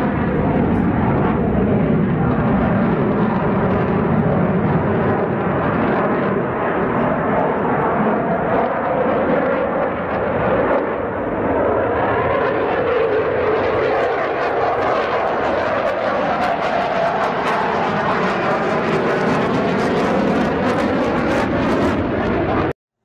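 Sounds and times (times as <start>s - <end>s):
fighter jet engine noise: 0.0s - 22.8s.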